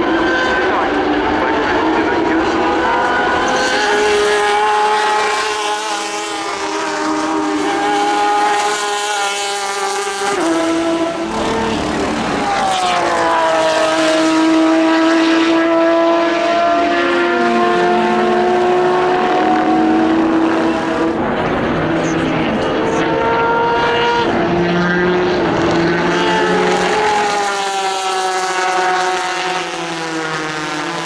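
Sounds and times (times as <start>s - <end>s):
racing car engine at high revs: 0.0s - 31.0s
second car engine: 0.0s - 31.0s.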